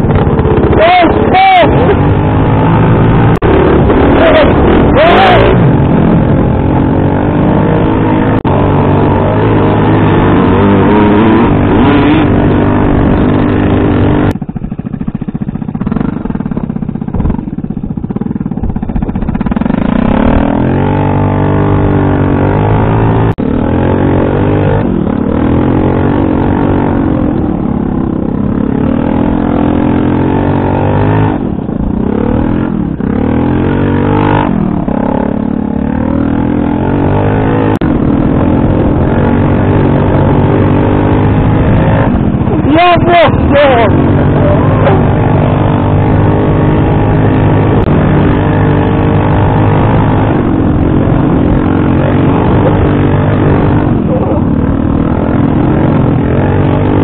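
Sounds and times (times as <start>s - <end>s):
motor scooter engine revving: 0.0s - 57.0s.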